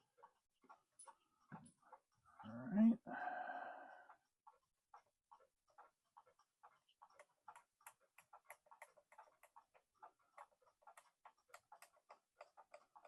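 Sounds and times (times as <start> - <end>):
clock ticking: 0.0 - 3.1, 3.9 - 13.0.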